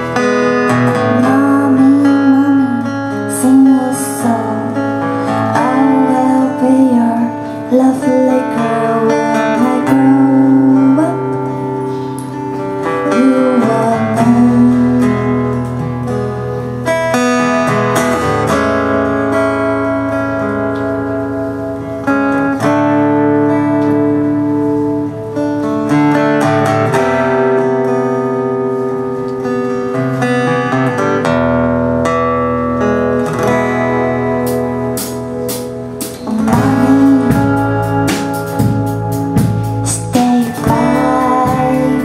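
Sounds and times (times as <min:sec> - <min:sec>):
guitar chords: 0:00.0 - 0:42.0.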